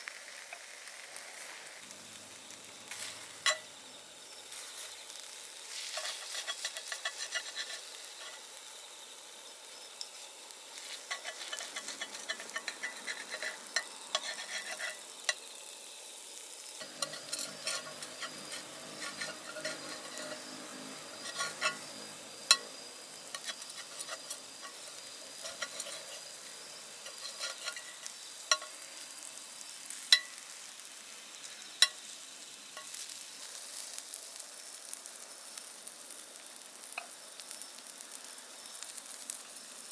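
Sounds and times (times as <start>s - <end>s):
steak sizzling over fire: 0.0s - 39.9s.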